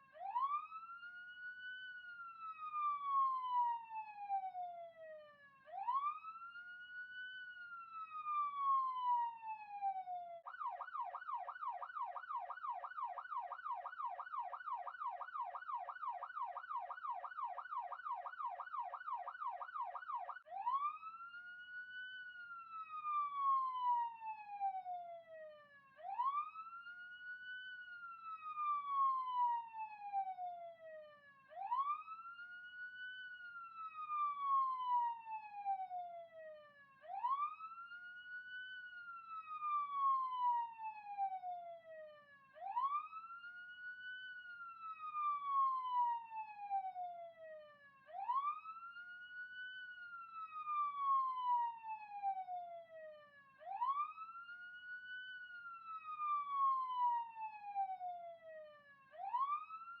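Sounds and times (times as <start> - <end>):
police siren wailing: 0.0 - 60.0.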